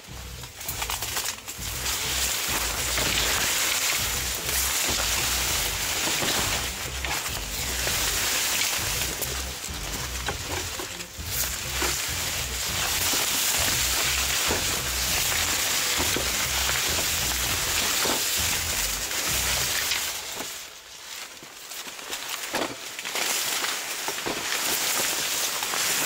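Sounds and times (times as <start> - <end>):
corn leaves rustling and scraping: 0.0 - 26.0.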